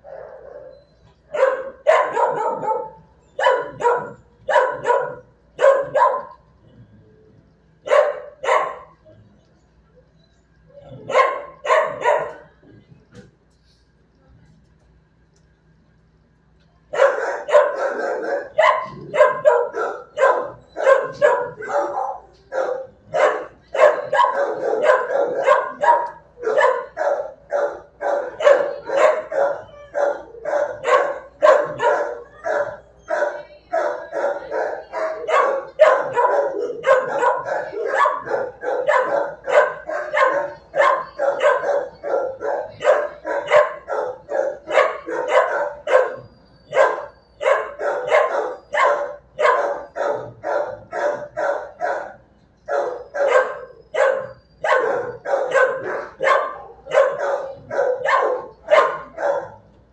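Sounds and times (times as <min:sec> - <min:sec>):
dog barking rapidly: 0:01.4 - 0:06.4, 0:07.9 - 0:09.0, 0:11.1 - 0:12.4, 0:17.0 - 0:59.6.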